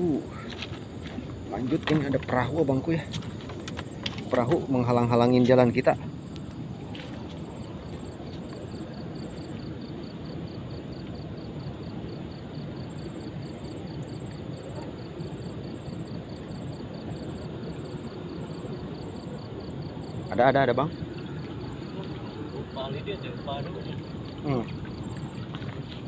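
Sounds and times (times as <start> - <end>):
higher insect chirp: 0.0 - 26.0
insects chirping: 0.0 - 26.0.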